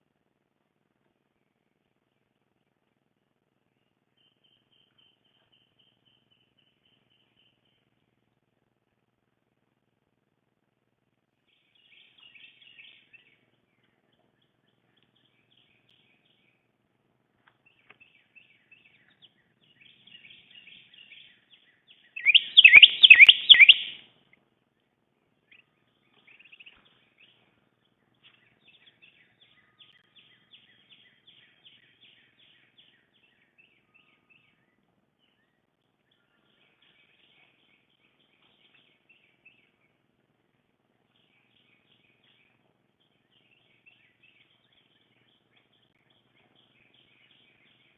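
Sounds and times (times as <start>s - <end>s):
small songbirds chirping: 1.0s - 9.0s, 11.4s - 47.9s.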